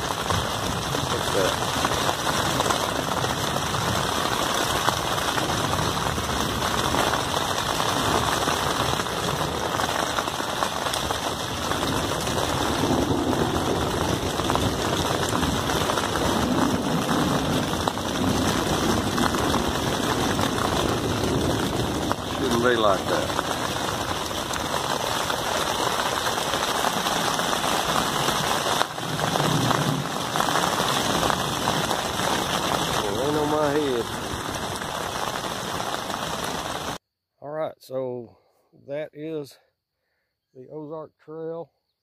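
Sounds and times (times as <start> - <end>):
heavy rain on a tent: 0.0 - 37.0.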